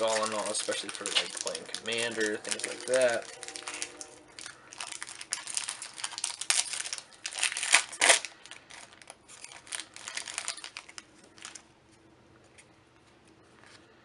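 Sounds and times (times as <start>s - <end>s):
foil wrapper crinkling and tearing: 0.0s - 11.7s.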